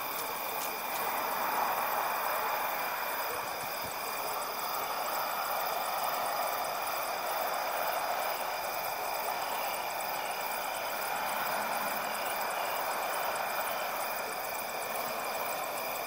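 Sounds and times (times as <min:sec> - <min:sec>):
distant night ambience: 0:00.0 - 0:16.0
rapid high-pitched ticking: 0:00.0 - 0:16.0.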